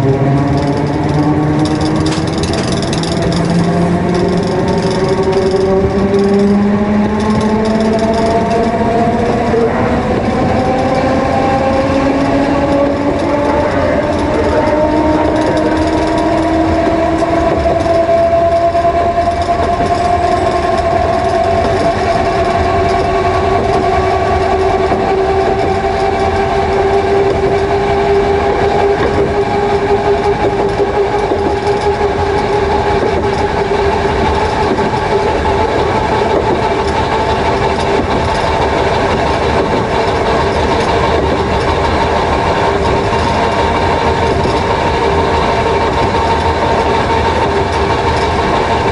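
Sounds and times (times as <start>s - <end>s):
train traction motor whining: 0.0s - 48.9s.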